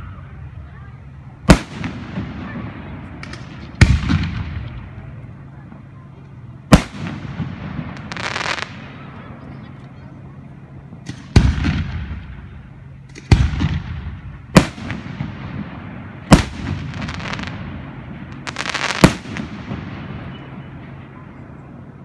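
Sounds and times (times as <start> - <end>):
firework crackling: 0.0 - 22.0.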